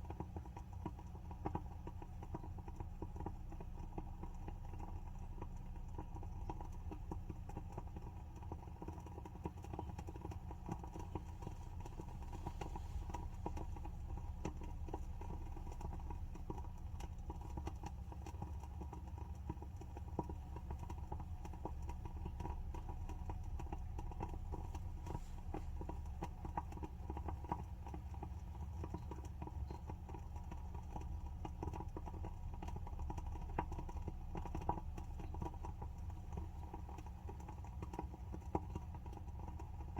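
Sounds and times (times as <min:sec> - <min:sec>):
wooden candle wick crackling: 0:00.6 - 0:39.9.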